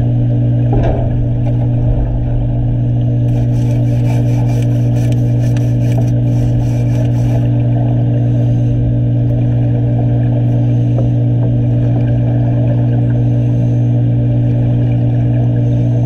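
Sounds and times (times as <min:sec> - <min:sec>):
underwater machine hum: 0:00.0 - 0:16.0.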